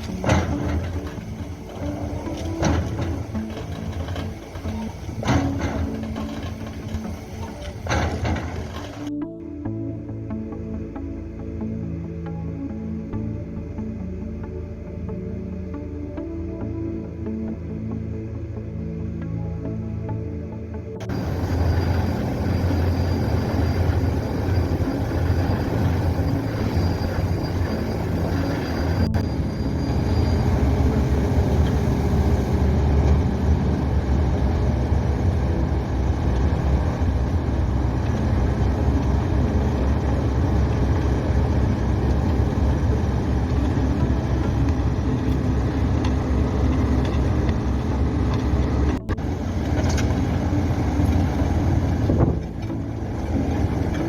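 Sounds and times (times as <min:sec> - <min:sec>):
heavy machinery deep rumble: 0:00.0 - 0:14.2, 0:21.0 - 0:54.0.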